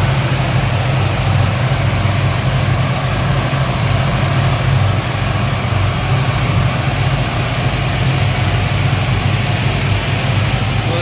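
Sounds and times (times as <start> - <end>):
speedboat engine humming: 0.0 - 11.0.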